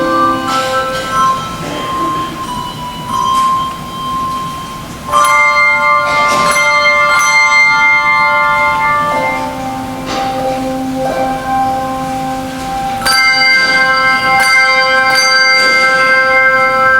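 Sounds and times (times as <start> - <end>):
handbell chord ringing: 0.0 - 16.9.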